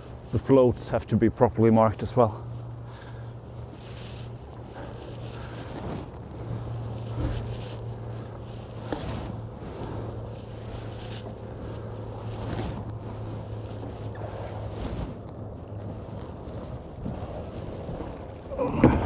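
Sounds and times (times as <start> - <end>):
boat motor humming: 0.0 - 19.0
wind noise on microphone: 0.0 - 19.0.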